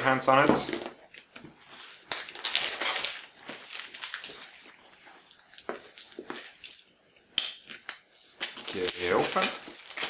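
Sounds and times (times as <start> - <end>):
shrink wrap crinkling and rustling: 0.3 - 10.0
plastic wrap snapping: 0.6 - 4.6, 5.3 - 10.0.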